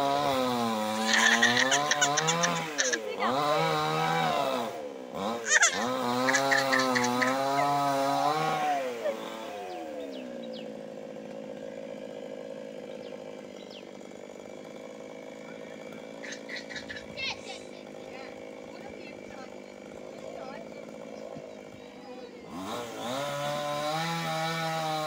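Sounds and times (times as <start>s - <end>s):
chainsaw revving and idling: 0.0s - 25.0s.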